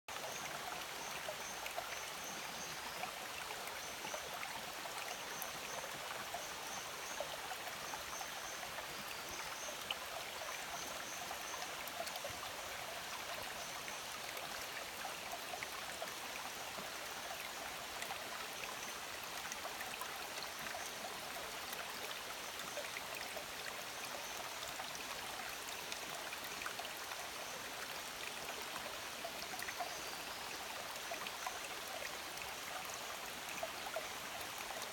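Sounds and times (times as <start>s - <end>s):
stream flowing over stones: 0.1s - 34.9s.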